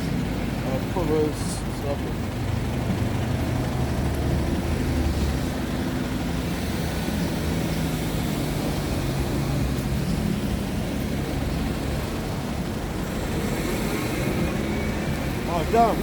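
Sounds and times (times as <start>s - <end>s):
engine rumble with droning hum: 0.0s - 16.0s.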